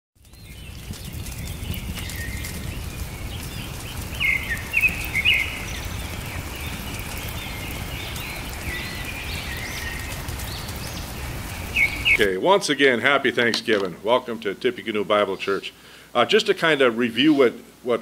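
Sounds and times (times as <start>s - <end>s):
small birds chirping: 0.2s - 12.3s, 13.4s - 17.8s.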